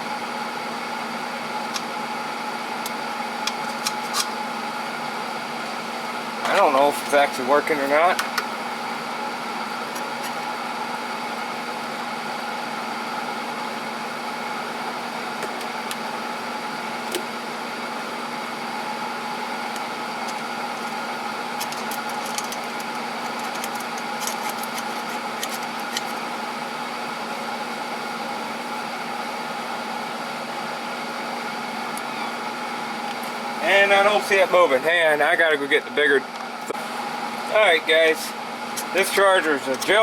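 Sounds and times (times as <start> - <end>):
battery charger hum: 0.0 - 35.0.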